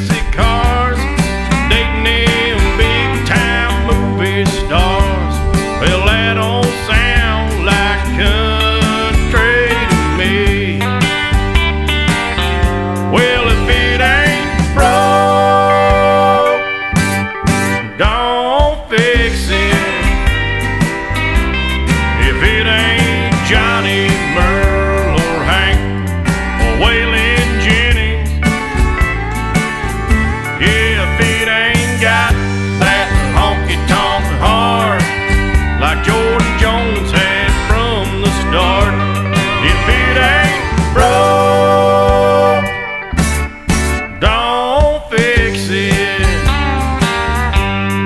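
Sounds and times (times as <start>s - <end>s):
instrumental country music: 0.0s - 48.0s.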